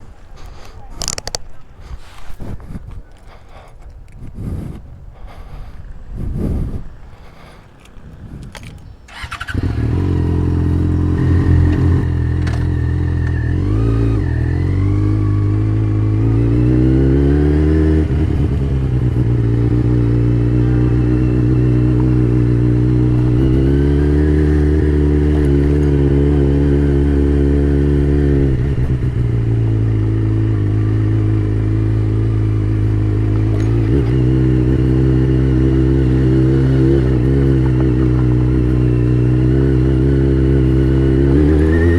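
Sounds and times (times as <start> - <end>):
motorcycle engine accelerating: 5.3 - 41.9.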